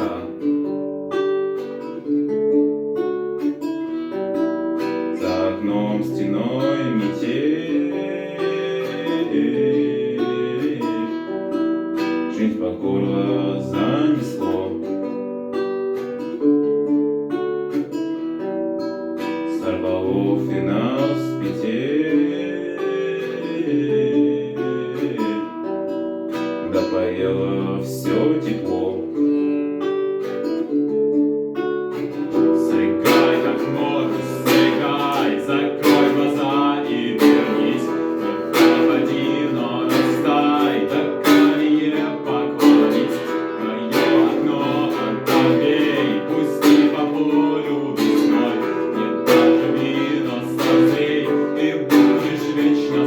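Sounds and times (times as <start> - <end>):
guitar picking and strumming: 0.0 - 53.0.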